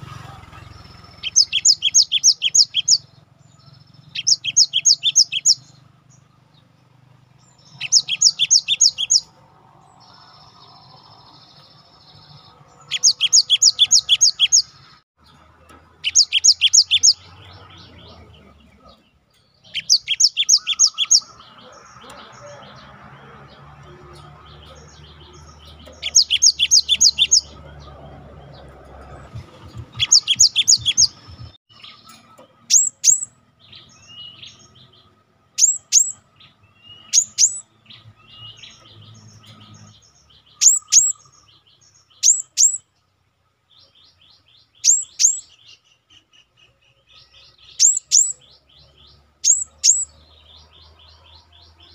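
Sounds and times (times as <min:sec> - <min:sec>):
bird singing high trills: 0:00.0 - 0:43.0, 0:43.7 - 0:51.9.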